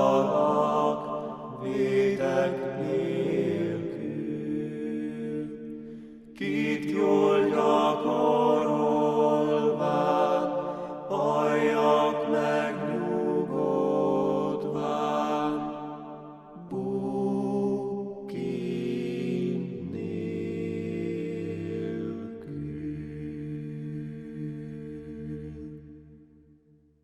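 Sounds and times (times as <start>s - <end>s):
chant-like hymn singing: 0.0s - 26.4s.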